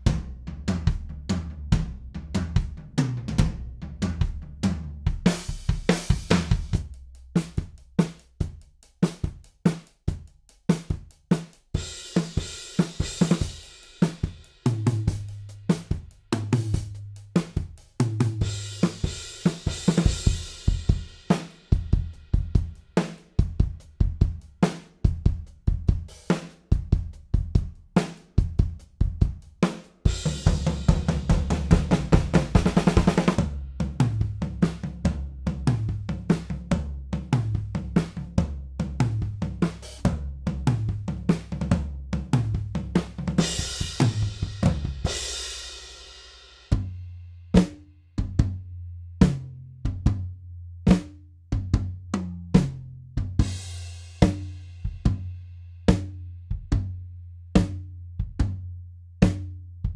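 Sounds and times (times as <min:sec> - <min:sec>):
drum kit playing rock groove: 0:00.0 - 0:48.6, 0:50.9 - 0:56.9.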